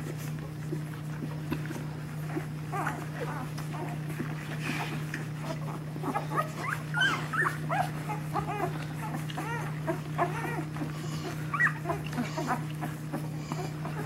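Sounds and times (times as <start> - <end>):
puppies squeaking and whimpering: 0.0 - 14.0.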